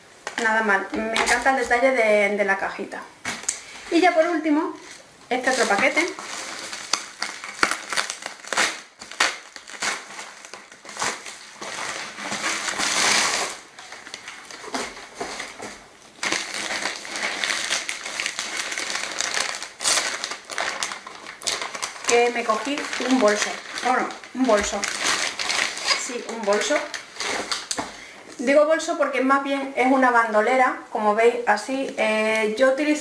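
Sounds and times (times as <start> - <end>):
plastic bags crinkling: 0.3 - 2.0, 3.3 - 28.0.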